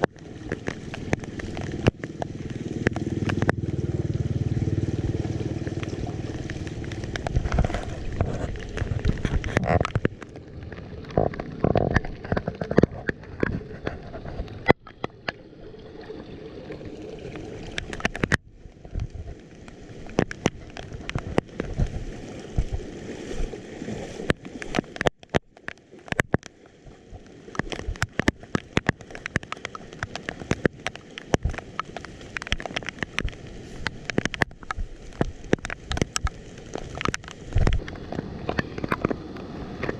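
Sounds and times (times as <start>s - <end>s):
sharp clicks and knocks: 0.0s - 3.7s, 5.7s - 15.4s, 17.7s - 19.3s, 20.0s - 22.8s, 24.2s - 39.2s
water gurgling in drain: 0.0s - 39.9s.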